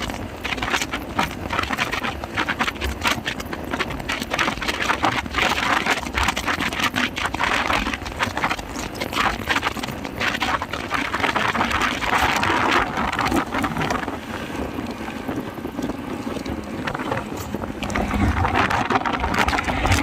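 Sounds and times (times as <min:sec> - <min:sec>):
rapid irregular crackles: 0:00.0 - 0:20.0
wind and road noise: 0:00.0 - 0:20.0.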